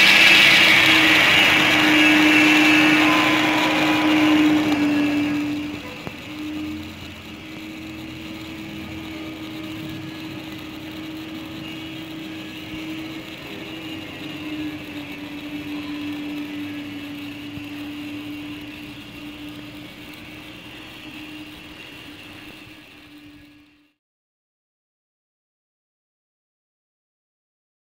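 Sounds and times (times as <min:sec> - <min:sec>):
electric motor whining: 0:00.0 - 0:24.0
steady hiss: 0:00.0 - 0:24.0.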